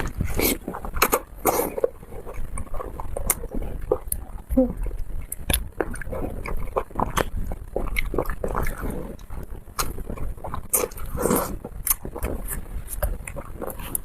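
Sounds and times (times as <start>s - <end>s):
wet chewing and lip-smacking: 0.0s - 14.0s.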